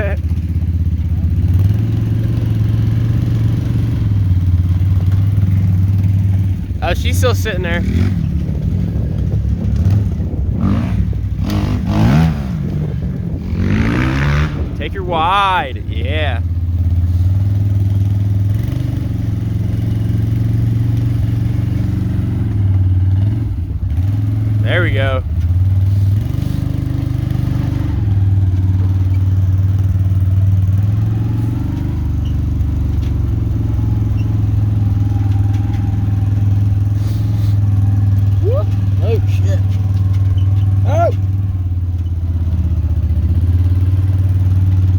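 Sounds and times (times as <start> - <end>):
vehicle engine revving: 0.0 - 44.9.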